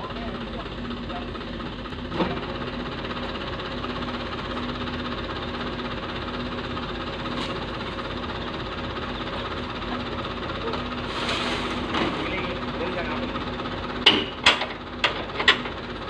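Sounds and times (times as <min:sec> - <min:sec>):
truck engine running steadily: 0:00.0 - 0:16.0.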